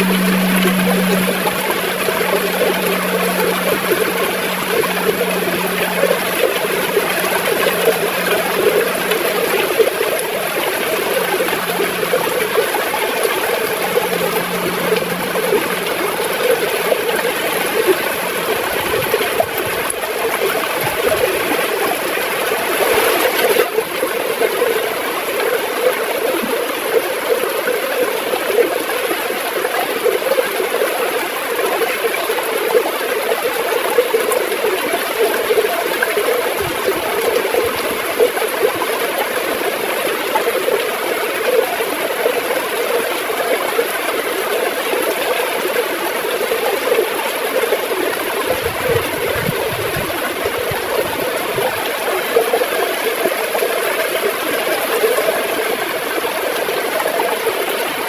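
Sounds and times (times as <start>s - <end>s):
river water gurgling: 0.0s - 58.0s.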